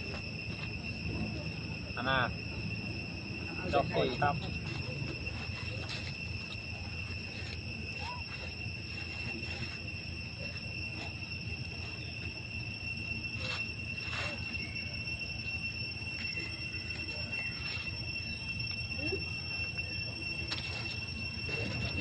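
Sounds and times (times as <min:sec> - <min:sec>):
insects high-pitched drone: 0:00.0 - 0:22.0.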